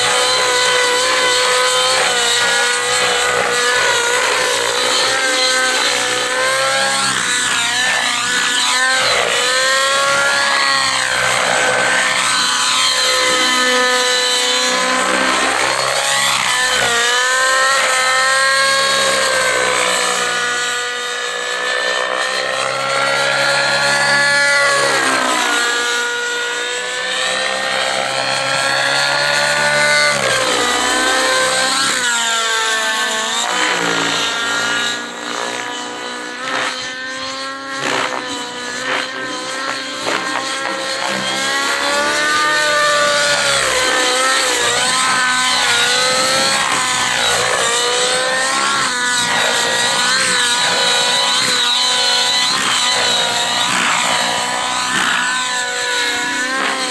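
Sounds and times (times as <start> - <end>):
rc helicopter engine and rotor: 0.0 - 56.9.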